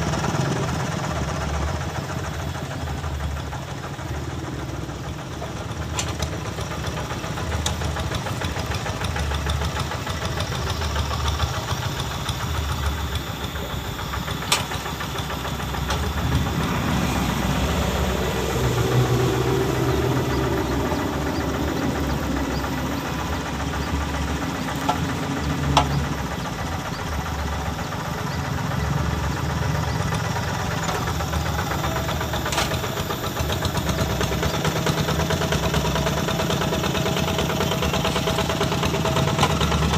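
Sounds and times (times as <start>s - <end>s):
diesel hand tractor running: 0.0s - 39.9s.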